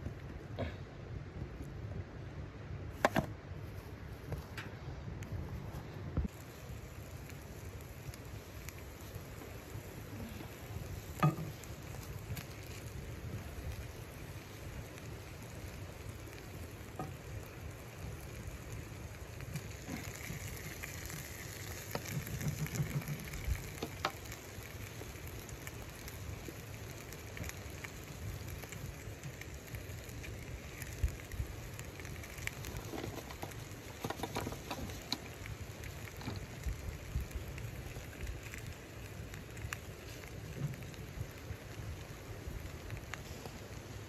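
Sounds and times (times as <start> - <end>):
fat popping and crackling: 2.9 - 3.4, 4.3 - 44.0
chicken sizzling in a pan: 6.3 - 44.0.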